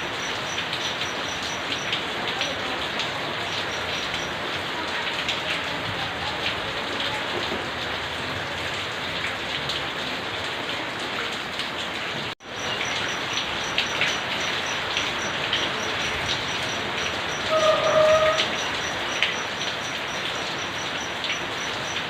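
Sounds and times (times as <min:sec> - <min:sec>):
louder raindrops: 0:00.0 - 0:22.0
steady rain falling: 0:00.0 - 0:22.0.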